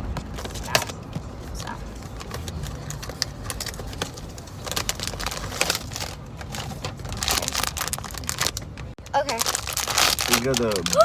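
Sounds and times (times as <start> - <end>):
packaging crinkling and clicking: 2.0 - 11.0.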